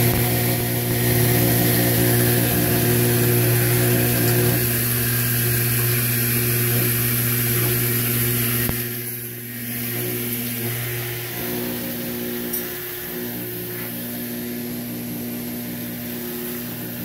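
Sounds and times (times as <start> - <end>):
electric pump motor hum: 0.0 - 17.0.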